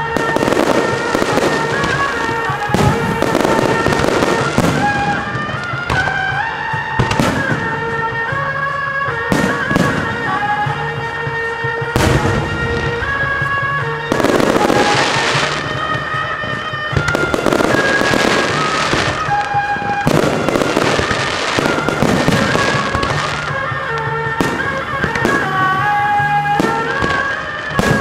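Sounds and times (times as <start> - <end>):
firework shells bursting: 0.0 - 8.3, 9.2 - 28.0
melodic music: 0.0 - 28.0.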